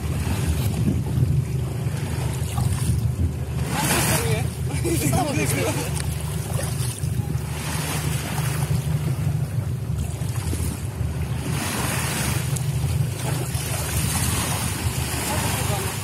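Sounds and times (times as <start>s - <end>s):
steady low rumble: 0.0s - 16.0s
water washing around boat: 0.0s - 16.0s
wind buffeting microphone: 0.0s - 16.0s.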